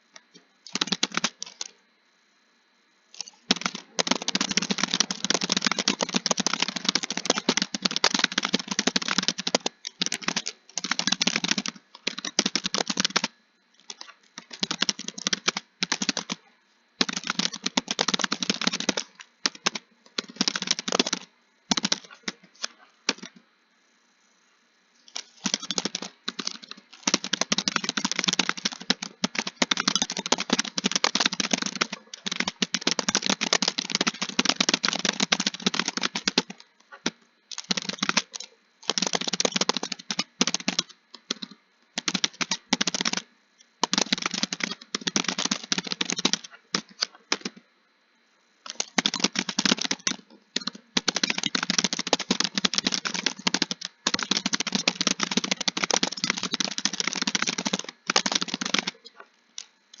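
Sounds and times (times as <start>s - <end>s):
rapid typing on a keyboard: 0.0s - 1.8s, 3.2s - 23.4s, 25.1s - 47.6s, 48.6s - 60.0s.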